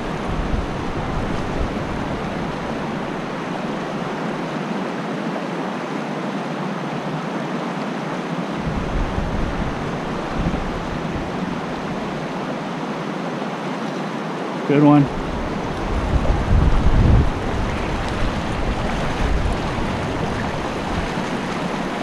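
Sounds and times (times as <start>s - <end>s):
creek current rushing: 0.0s - 22.0s.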